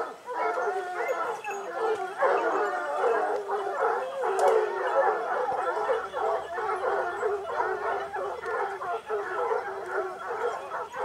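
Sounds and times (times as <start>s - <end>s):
hounds baying and howling: 0.0s - 11.0s.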